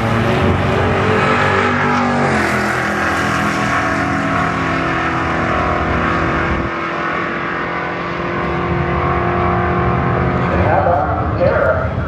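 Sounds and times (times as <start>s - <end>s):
drag car engine at full throttle: 0.0s - 12.0s.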